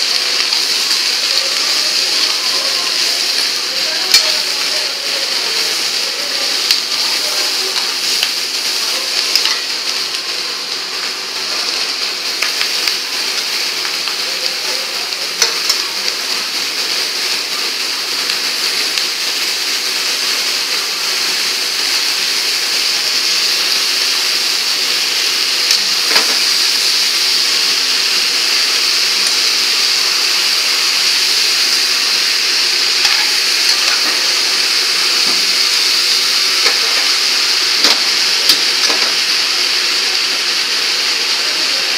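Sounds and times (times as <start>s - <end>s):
vegetables sizzling in hot oil: 0.0s - 41.9s.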